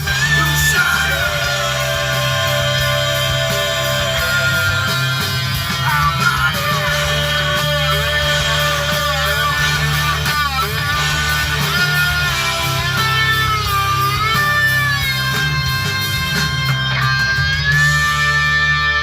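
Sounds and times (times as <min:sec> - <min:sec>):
rock music with singing: 0:00.0 - 0:19.0.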